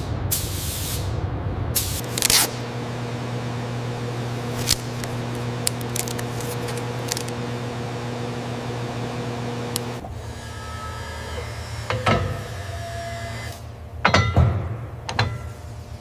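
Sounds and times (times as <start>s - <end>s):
machine hum: 1.2s - 14.1s.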